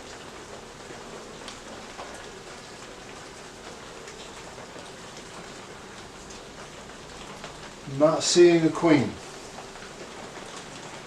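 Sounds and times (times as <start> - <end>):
rain patter: 0.0 - 11.0.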